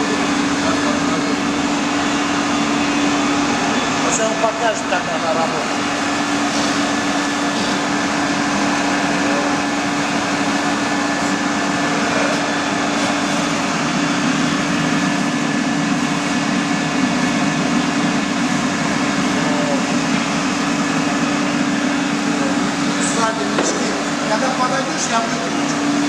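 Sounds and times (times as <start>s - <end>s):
polishing machine whirring hum: 0.0s - 26.0s.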